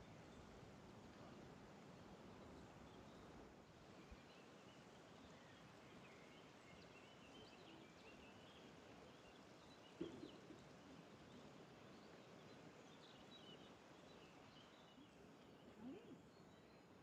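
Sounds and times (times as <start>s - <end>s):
outdoor background hush: 0.0s - 17.0s
songbirds chirping: 0.0s - 17.0s.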